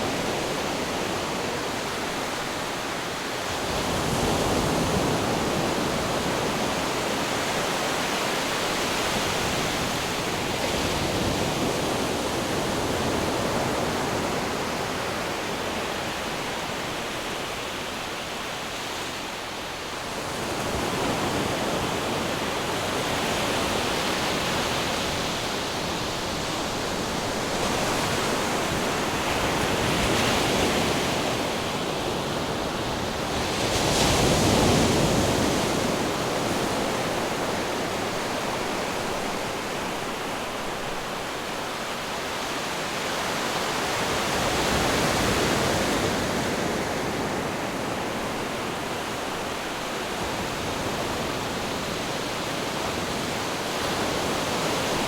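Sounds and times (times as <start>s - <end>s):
wind: 0.0s - 55.0s.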